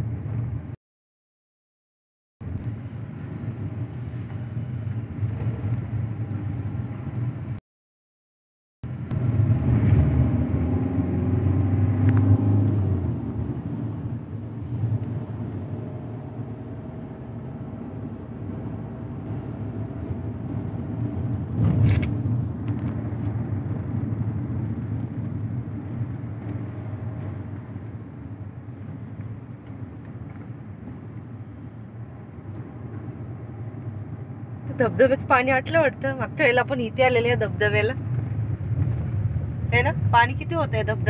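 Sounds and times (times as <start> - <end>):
car engine and tyre rumble: 0.0 - 0.8, 2.4 - 7.6, 8.8 - 41.0.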